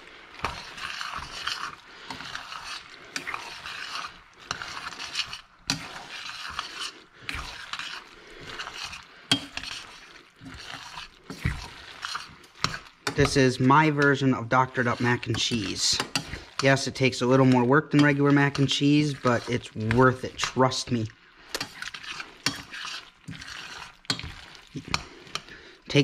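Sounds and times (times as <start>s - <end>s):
spoon scraping metal saucepan: 0.3s - 26.0s.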